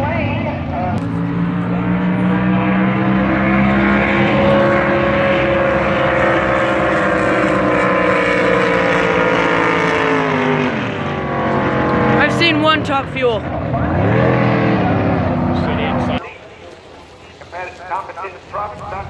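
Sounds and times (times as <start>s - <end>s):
racing boat engine at full throttle: 0.0s - 19.0s.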